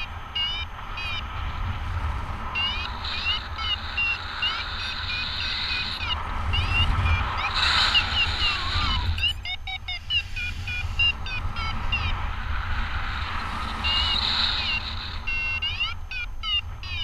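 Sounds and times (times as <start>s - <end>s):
variometer beeping in rising chirps: 0.0s - 1.8s, 2.4s - 17.0s
wind rumble on microphone: 0.0s - 17.0s.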